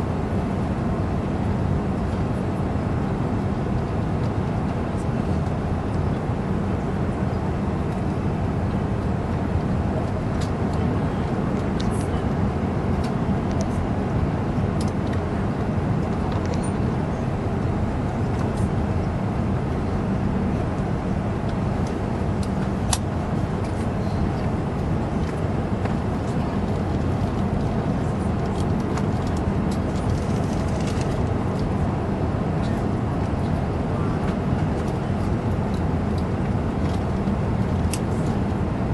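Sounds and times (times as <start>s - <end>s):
airplane cabin airflow and engine hum: 0.0s - 38.9s.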